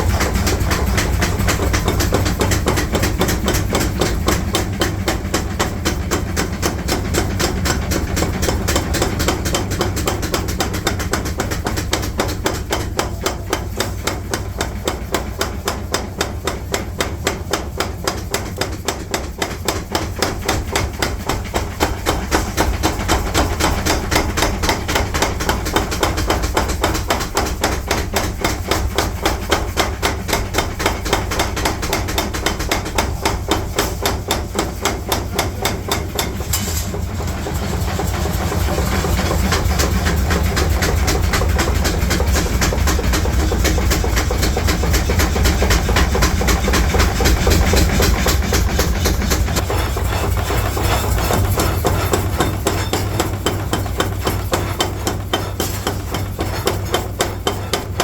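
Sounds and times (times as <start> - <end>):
forging hammer striking steel: 0.0 - 58.0
low machine rumble: 0.0 - 58.0
machine running: 0.0 - 58.0.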